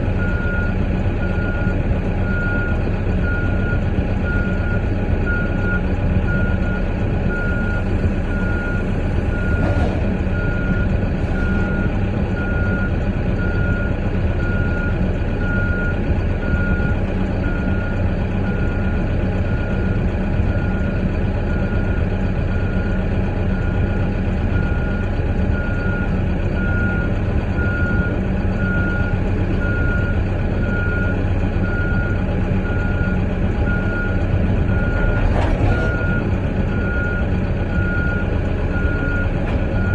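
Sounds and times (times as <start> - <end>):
diesel engine running: 0.0 - 39.9
reversing alarm beeping: 0.2 - 19.9, 21.5 - 39.9.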